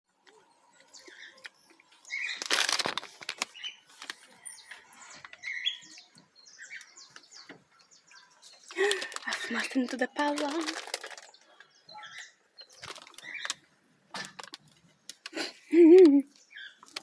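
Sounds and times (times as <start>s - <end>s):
small birds chirping: 0.1s - 17.0s.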